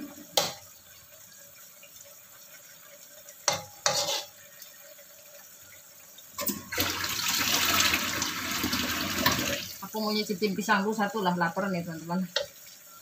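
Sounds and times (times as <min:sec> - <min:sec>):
kitchen tap water running: 0:00.0 - 0:13.0.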